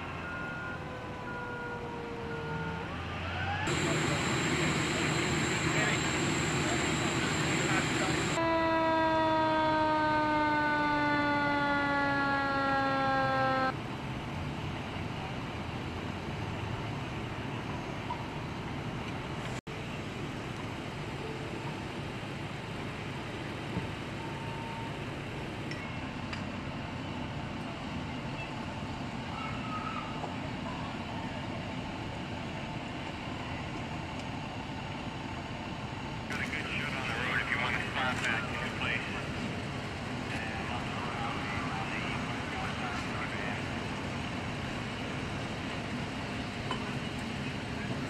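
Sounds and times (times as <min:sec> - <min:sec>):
emergency vehicle siren: 0:00.0 - 0:14.0, 0:21.1 - 0:25.6, 0:27.8 - 0:48.0
steady background noise: 0:03.5 - 0:08.5, 0:13.5 - 0:48.0.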